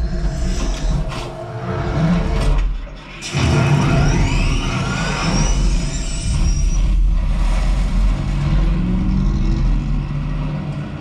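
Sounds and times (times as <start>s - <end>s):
film soundtrack engines rumbling: 0.0s - 11.0s.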